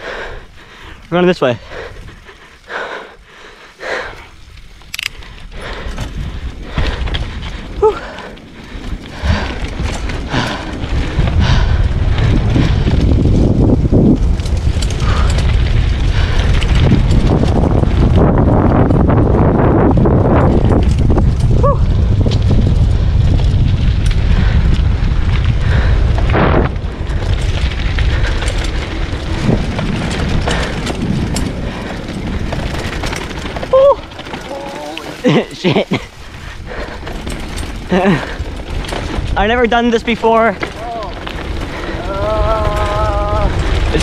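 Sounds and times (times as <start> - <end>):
bike rolling over gravel: 0.0 - 44.0
wind rumble on microphone: 0.0 - 44.0
bike knocks and rattles: 5.7 - 44.0.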